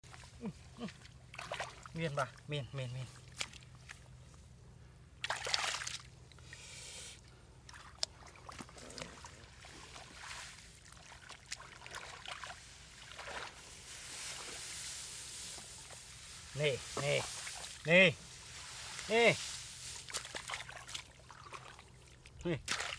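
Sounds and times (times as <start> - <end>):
water splashing and trickling: 0.0 - 4.1, 5.2 - 6.5, 7.3 - 22.9.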